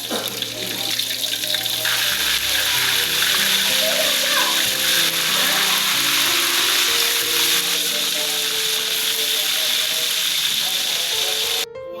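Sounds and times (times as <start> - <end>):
food sizzling in hot oil: 0.0 - 11.7
background music: 0.0 - 12.0.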